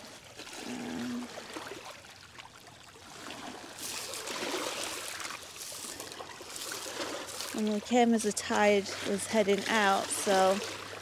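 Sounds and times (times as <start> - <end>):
water lapping against rocks: 0.0 - 11.0.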